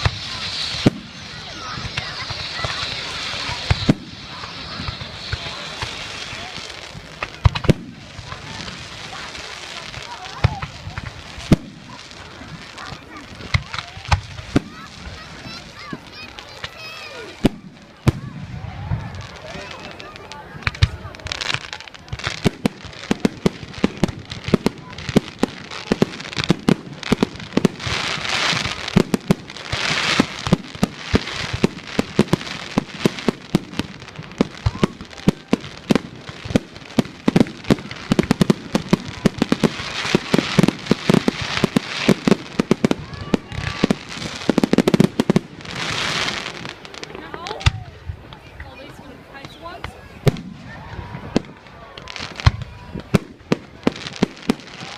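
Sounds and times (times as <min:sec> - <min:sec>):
fireworks bangs: 0:00.0 - 0:54.9
fireworks hissing crackle: 0:00.0 - 0:54.9.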